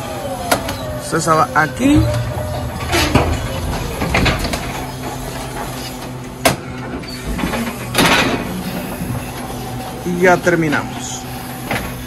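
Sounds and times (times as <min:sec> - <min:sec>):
forklift motor hum: 0:00.0 - 0:12.0.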